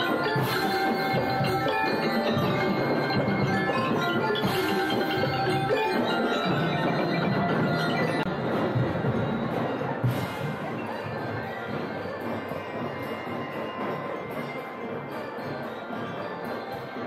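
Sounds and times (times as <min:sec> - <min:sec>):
drums: 0:00.0 - 0:17.0
percussion music: 0:00.0 - 0:17.0
ringing metallic and wooden tones: 0:00.0 - 0:17.0.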